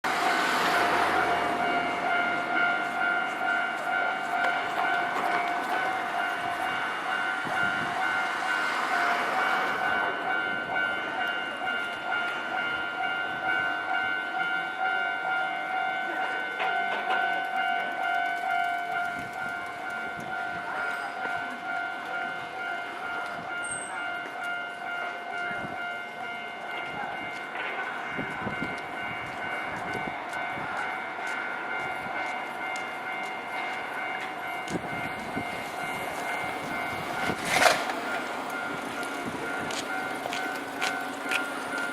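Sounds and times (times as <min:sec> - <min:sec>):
train passing rumble: 0:00.0 - 0:41.9
level crossing bell ringing: 0:00.3 - 0:37.4.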